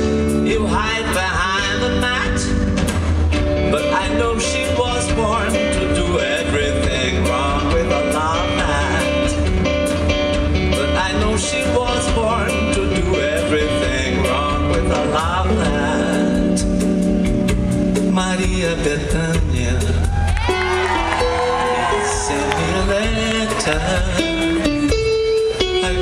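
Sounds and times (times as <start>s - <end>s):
drum kit: 0.0s - 26.0s
electric guitars: 0.0s - 26.0s.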